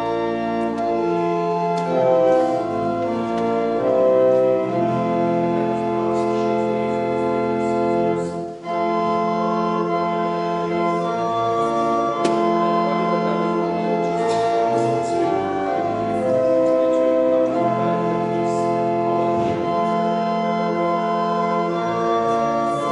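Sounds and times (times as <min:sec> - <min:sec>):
organ playing slow chords: 0:00.0 - 0:22.9.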